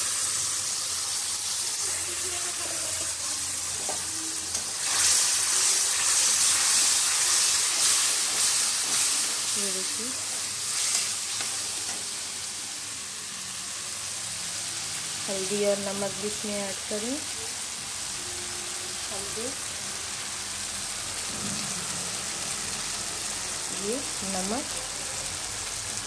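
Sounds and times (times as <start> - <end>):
paste sizzling in hot oil: 0.0 - 26.0.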